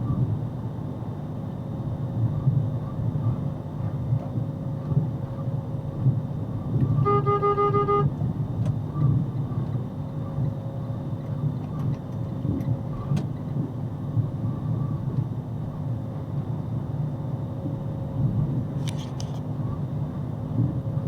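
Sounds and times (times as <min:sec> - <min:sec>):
vehicle road and engine rumble: 0:00.0 - 0:21.0.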